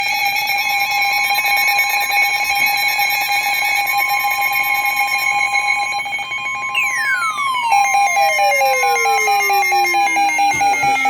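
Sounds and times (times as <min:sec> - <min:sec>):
two-tone alarm: 0:00.0 - 0:11.0.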